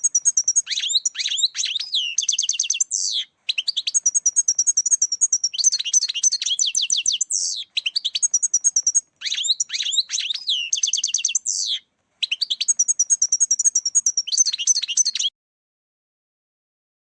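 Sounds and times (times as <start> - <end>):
goldfinch twittering song: 0.0 - 15.3.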